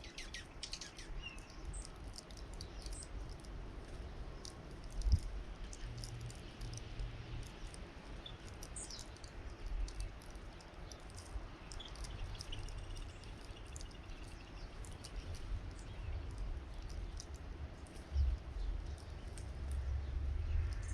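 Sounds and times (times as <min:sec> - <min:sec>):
low wind rumble: 0:00.0 - 0:20.9
songbirds chirping: 0:00.0 - 0:20.9.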